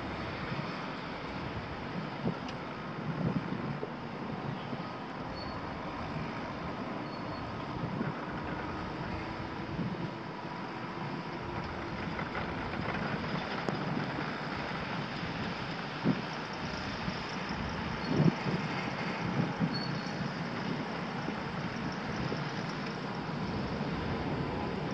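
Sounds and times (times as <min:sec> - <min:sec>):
diesel engine noise: 0:00.0 - 0:24.9.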